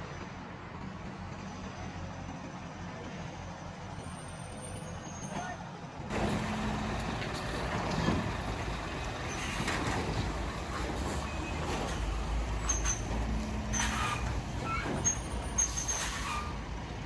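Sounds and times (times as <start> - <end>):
passing cars and trucks: 0.0 - 17.0.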